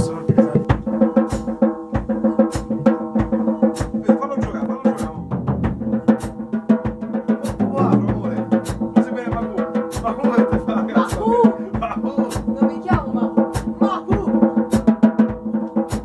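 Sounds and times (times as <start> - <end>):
band playing: 0.0 - 15.2
drum kit beat: 0.0 - 16.0
heavy low drum strokes: 0.0 - 16.0.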